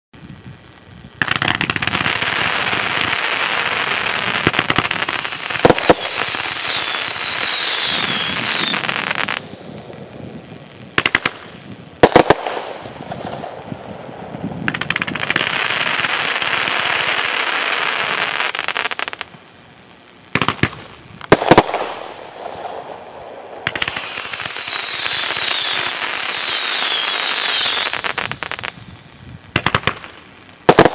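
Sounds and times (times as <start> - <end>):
firework crackling: 0.2 - 30.9
firework bangs: 1.2 - 19.5, 20.2 - 30.9.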